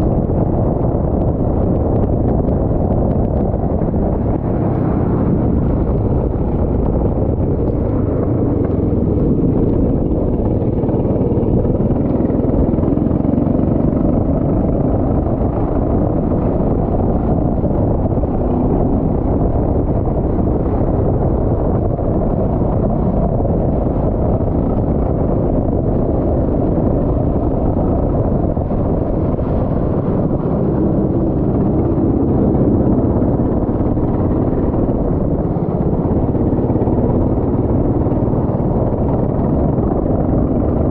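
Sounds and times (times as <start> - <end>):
go-kart engine running: 0.0 - 40.9
wind on microphone: 0.0 - 40.9.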